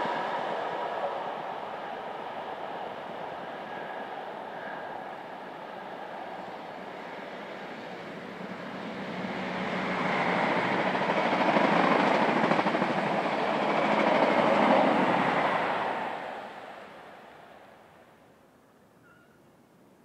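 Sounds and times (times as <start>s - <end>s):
train passing at speed: 0.0s - 18.2s.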